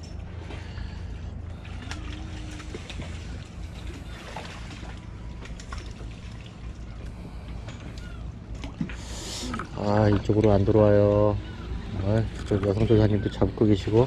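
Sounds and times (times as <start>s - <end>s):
faint trickling water: 0.0s - 14.0s
steady low rumble: 0.0s - 14.0s.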